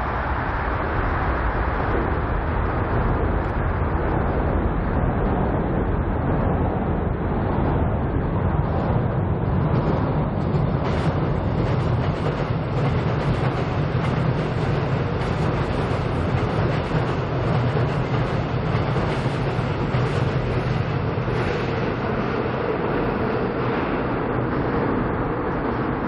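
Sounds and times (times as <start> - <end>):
train rumbling overhead: 0.0 - 26.0.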